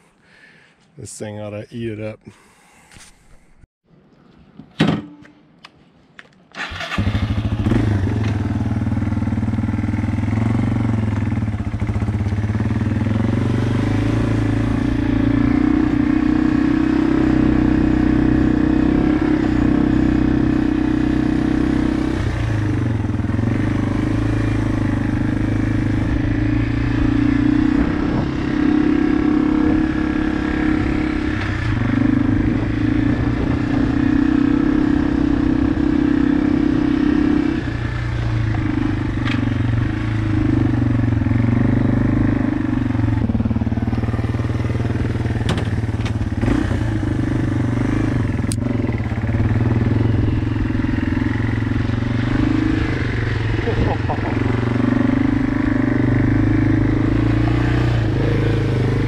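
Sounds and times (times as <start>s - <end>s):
motorcycle engine running: 6.7s - 59.0s.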